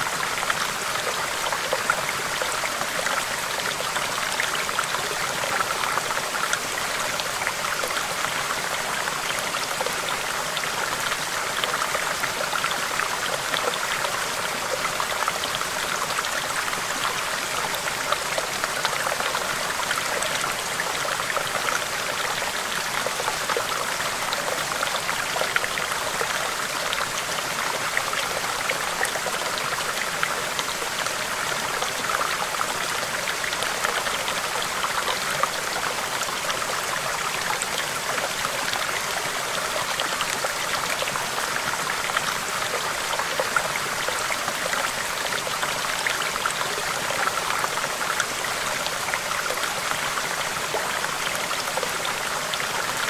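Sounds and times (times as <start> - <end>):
stream babbling over rocks: 0.0 - 53.0.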